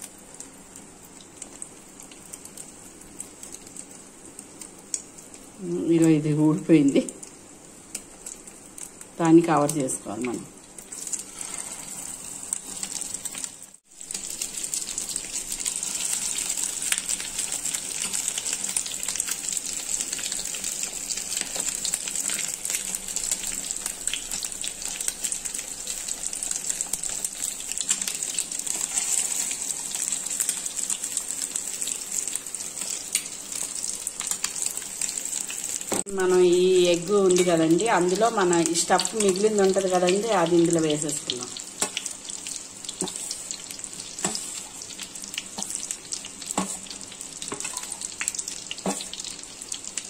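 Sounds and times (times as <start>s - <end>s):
oil sizzling in a frying pan: 0.0s - 50.0s.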